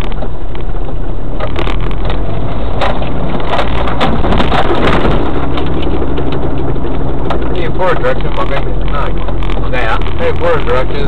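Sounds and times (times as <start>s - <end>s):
branches cracking against truck: 0.0s - 10.6s
truck engine in low gear: 0.0s - 11.0s.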